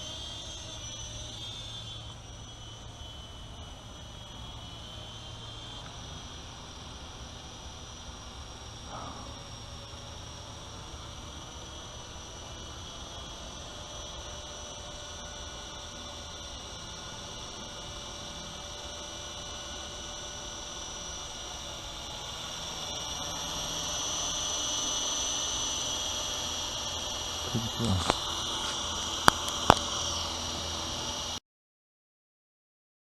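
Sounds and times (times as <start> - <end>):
toy helicopter motor whine: 0.0 - 31.4.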